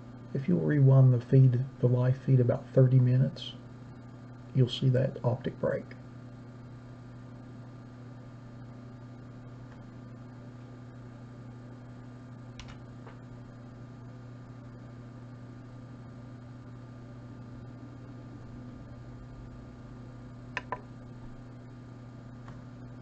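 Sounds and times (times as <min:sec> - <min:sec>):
mains hum: 0:00.0 - 0:23.0.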